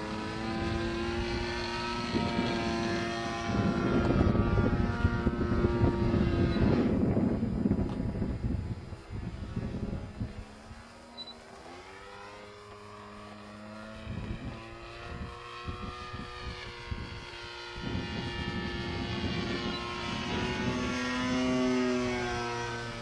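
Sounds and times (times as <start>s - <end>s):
propeller plane droning overhead: 0.0s - 23.0s.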